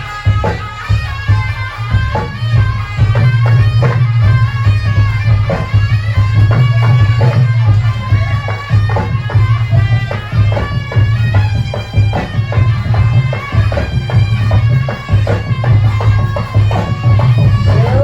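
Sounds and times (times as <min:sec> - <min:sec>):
beaten drums: 0:00.0 - 0:18.0
shrill reed shawm melody: 0:00.0 - 0:18.0.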